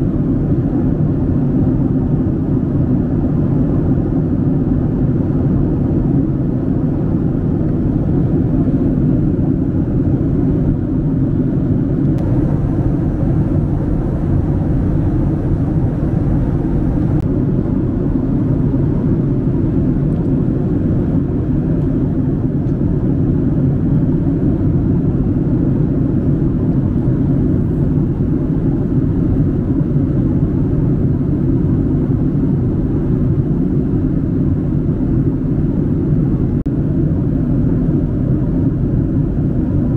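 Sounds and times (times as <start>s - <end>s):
airplane cabin engine roar: 0.0s - 39.9s.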